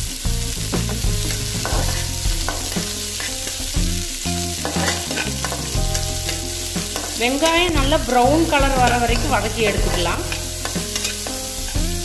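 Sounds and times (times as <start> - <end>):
onions sizzling in hot oil: 0.0 - 12.0
spatula scraping pan: 0.9 - 11.9.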